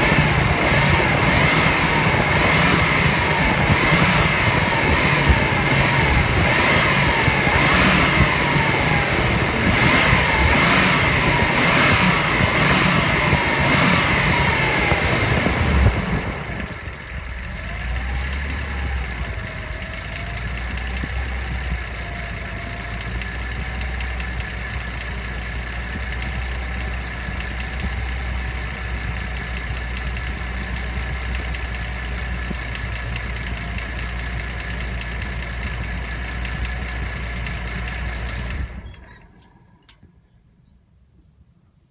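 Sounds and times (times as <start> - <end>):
car engine whining: 0.0 - 40.4
engine low idle hum: 0.0 - 41.5.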